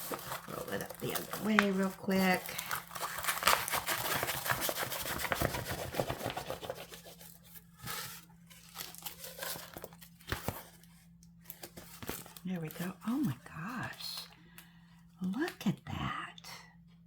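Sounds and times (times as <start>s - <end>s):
plastic film crinkling: 0.0s - 14.3s.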